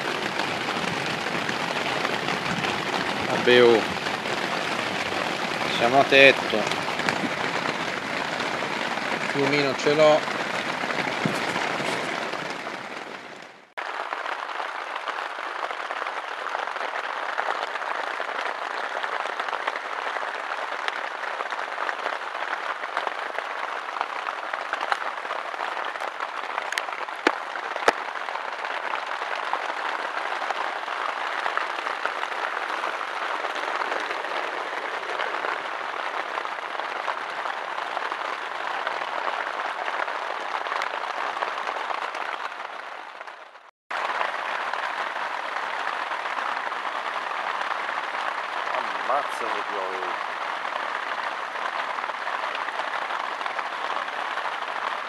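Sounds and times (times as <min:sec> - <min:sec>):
heavy rain on tent fabric: 0:00.0 - 0:55.0.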